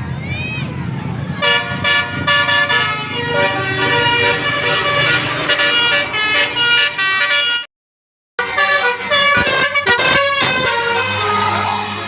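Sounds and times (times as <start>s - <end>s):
musical air horn tune: 1.4s - 7.7s, 8.4s - 12.0s.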